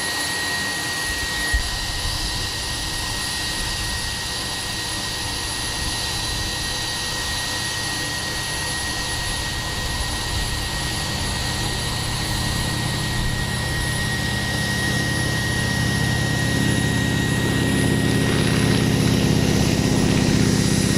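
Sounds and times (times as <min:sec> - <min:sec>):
biplane radial engine and propeller: 0:00.0 - 0:20.9
turbine high whine: 0:00.0 - 0:20.9.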